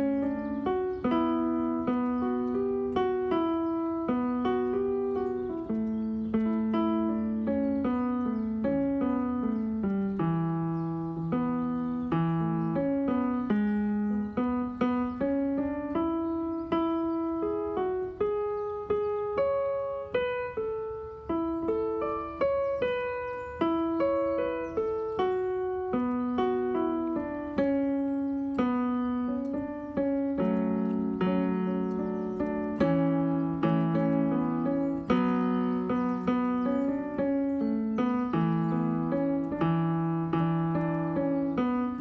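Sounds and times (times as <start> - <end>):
electronic keyboard piano melody: 0.0 - 42.0.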